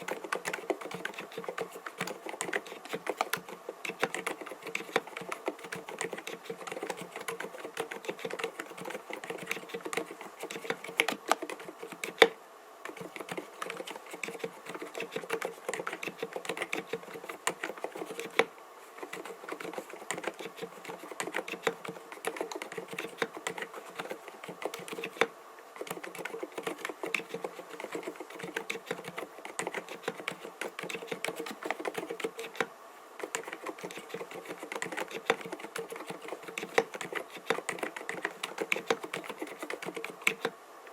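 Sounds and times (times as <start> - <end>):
fast typing on keyboard: 0.0 - 40.5.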